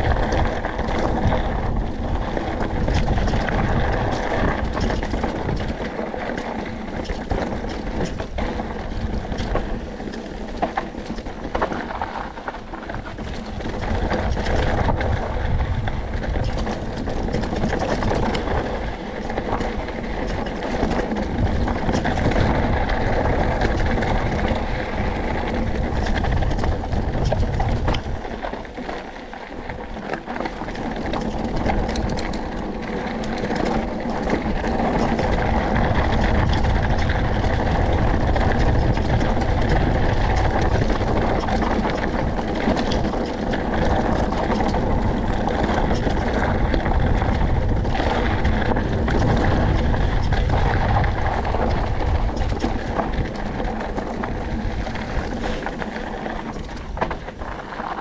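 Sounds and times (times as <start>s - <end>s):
bike clattering over rocks: 0.0s - 58.0s
tyres rolling on rocky dirt: 0.0s - 58.0s
wind buffeting microphone: 0.0s - 58.0s.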